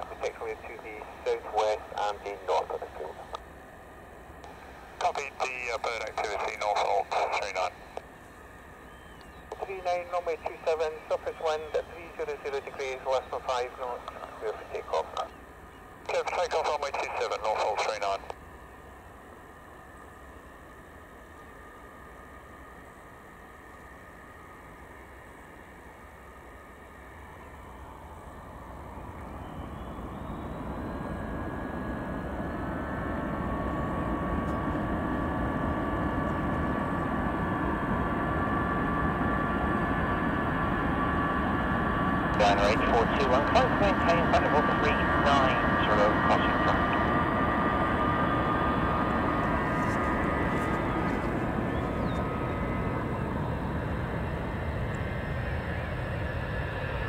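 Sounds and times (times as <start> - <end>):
jet engine whine: 0.0 - 57.0
jet engines rumbling: 0.0 - 57.0.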